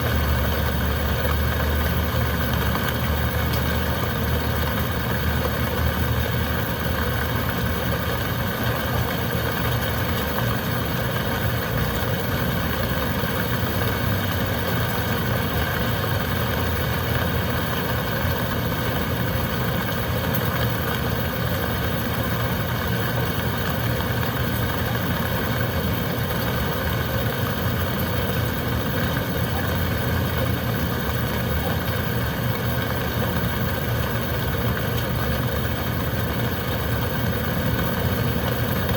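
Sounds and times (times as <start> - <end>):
wind: 0.0 - 38.9.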